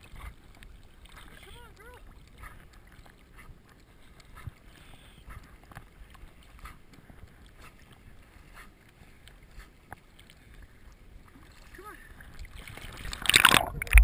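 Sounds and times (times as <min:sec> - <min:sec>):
dog paddling splashes: 0:00.0 - 0:14.0
water sloshing and lapping: 0:00.0 - 0:14.0.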